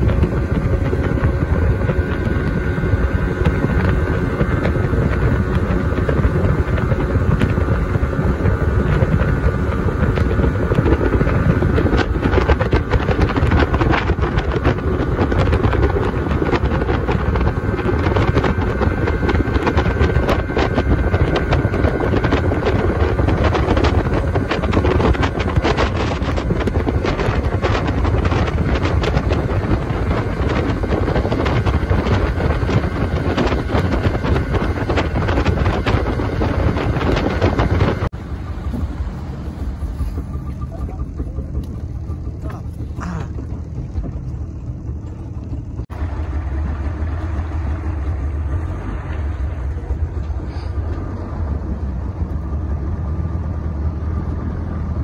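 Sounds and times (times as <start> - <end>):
speedboat engine: 0.0 - 55.0
wind buffeting microphone: 0.0 - 55.0.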